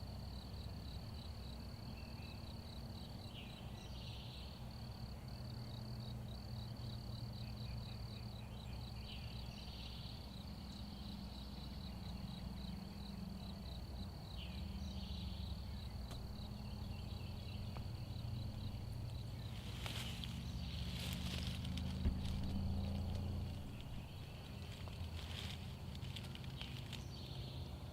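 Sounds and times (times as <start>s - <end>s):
low background rumble: 0.0s - 27.9s
pulsing insect trill: 0.1s - 27.9s.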